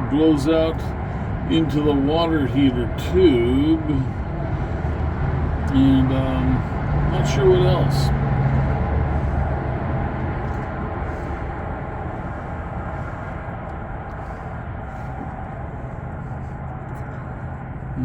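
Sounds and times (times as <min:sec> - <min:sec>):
low hum: 0:00.0 - 0:18.0
passing traffic: 0:00.0 - 0:18.0
vehicle engines idling: 0:00.0 - 0:18.0.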